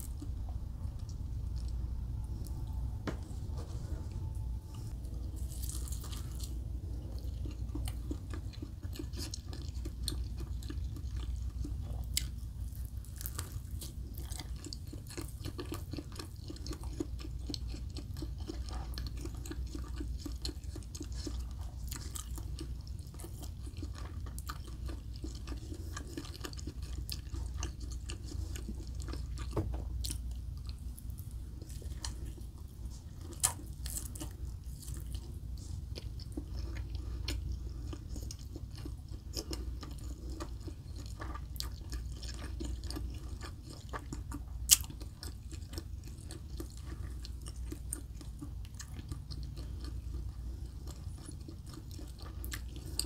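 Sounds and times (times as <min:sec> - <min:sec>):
steady low hum: 0:00.0 - 0:53.0
close chewing with wet mouth clicks: 0:05.3 - 0:53.0.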